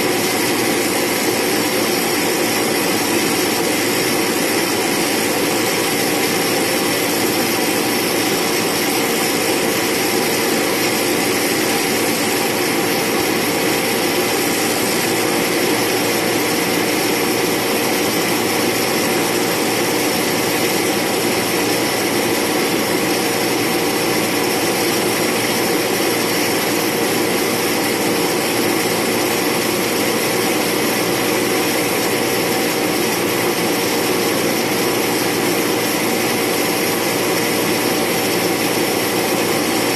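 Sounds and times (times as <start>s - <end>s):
propeller drone: 0.0s - 39.9s
turbine whine: 0.0s - 39.9s.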